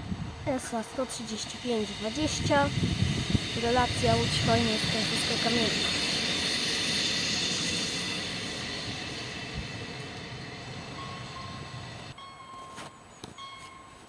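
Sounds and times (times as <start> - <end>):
train passing over rails: 0.0 - 12.6
outdoor ambience: 0.0 - 14.0
high whine: 0.9 - 12.2.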